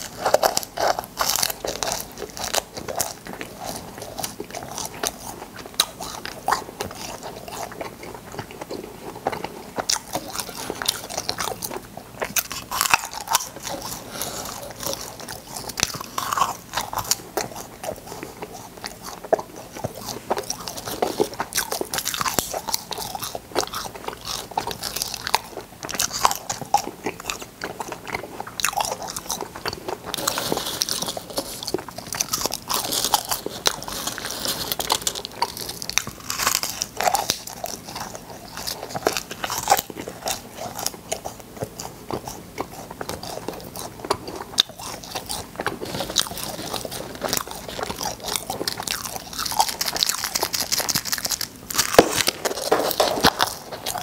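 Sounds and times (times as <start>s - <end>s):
crunching and chewing candy: 0.0s - 54.0s.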